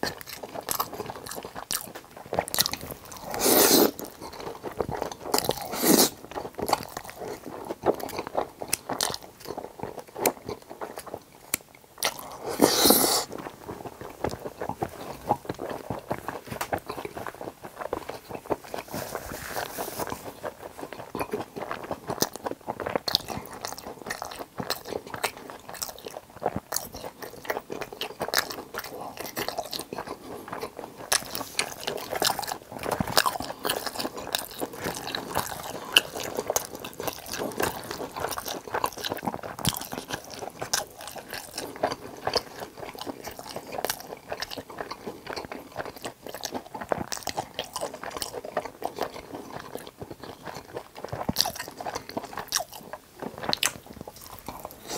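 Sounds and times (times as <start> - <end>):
crunching and chewing crispy food: 0.0 - 54.9.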